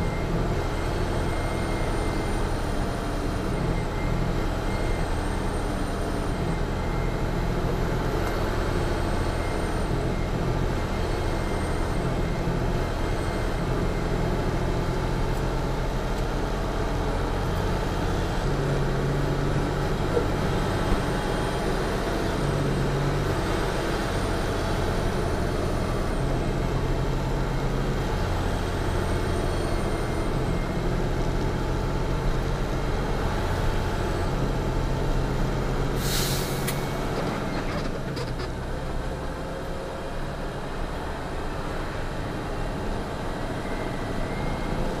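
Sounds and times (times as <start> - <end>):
road noise: 0.0 - 45.0
truck diesel engine droning: 0.0 - 45.0.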